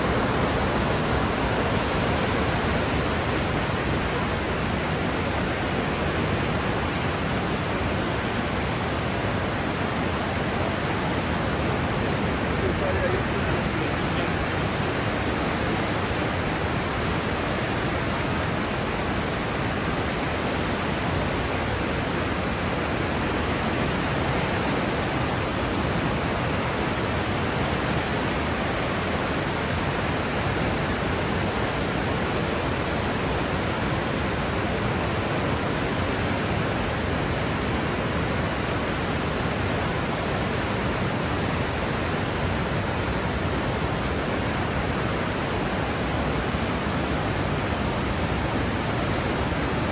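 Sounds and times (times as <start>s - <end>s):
whitewater rapids roaring: 0.0s - 49.9s.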